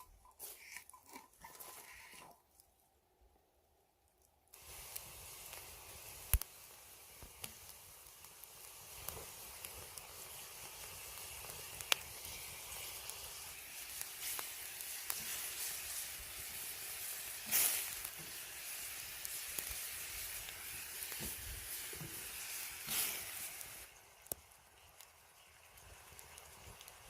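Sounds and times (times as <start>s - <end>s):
food sizzling in hot fat: 0.0s - 2.4s, 4.5s - 27.0s.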